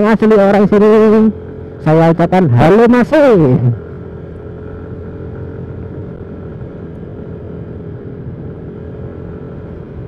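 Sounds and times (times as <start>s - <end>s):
scooter engine cruising: 0.0s - 10.0s
wind and road rumble: 0.0s - 10.0s.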